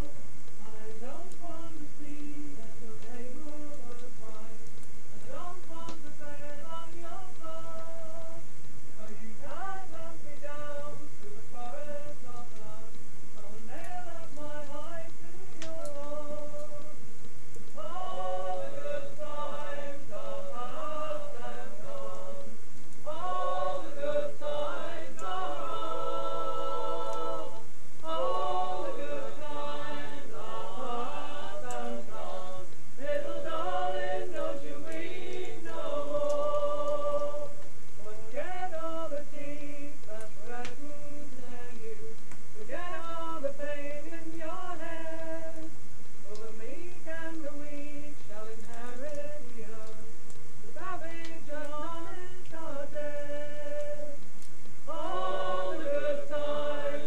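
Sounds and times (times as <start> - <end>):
group singing unaccompanied: 5.2 - 8.4, 9.0 - 17.0, 17.7 - 50.0, 50.8 - 54.2, 54.8 - 57.0.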